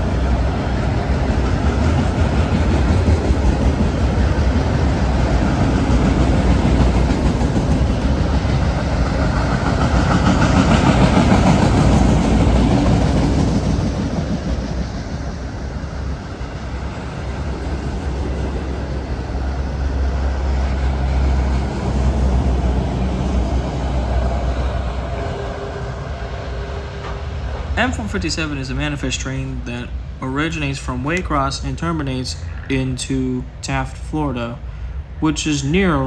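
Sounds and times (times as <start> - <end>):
train wheels clattering on rails: 0.0 - 25.5, 26.9 - 33.6.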